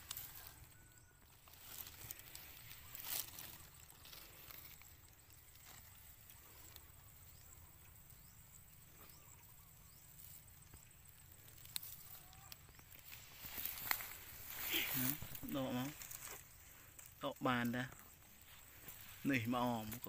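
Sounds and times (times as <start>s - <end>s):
grass being picked by hand: 0.0s - 20.0s.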